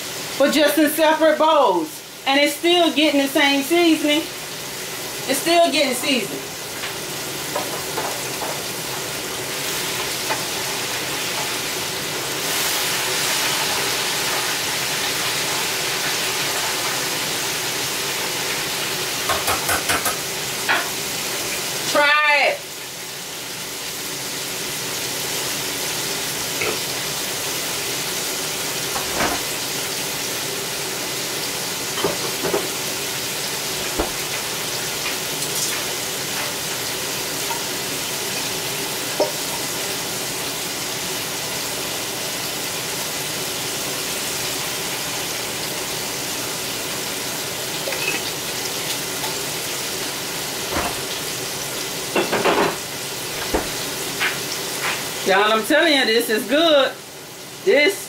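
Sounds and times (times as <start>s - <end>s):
tomato slices sizzling in oil: 0.0s - 58.0s.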